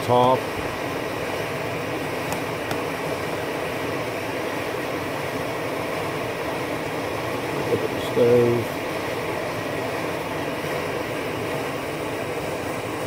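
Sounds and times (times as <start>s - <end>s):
stove burner roaring: 0.0s - 13.0s.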